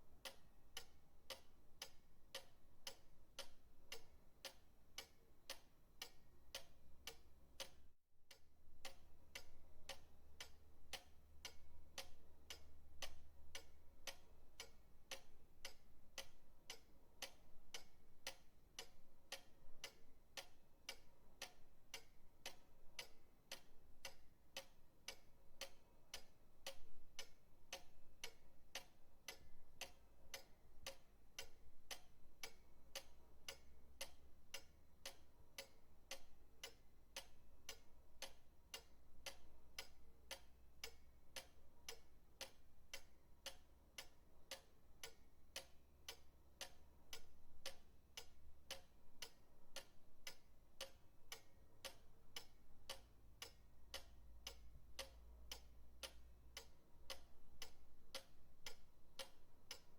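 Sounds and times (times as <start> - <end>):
pendulum clock ticking: 0.0 - 59.9.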